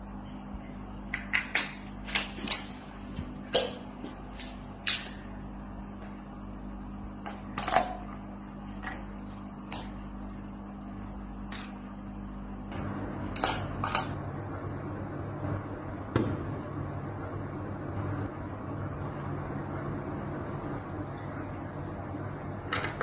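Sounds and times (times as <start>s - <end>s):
aquarium pump hum: 0.0s - 23.0s.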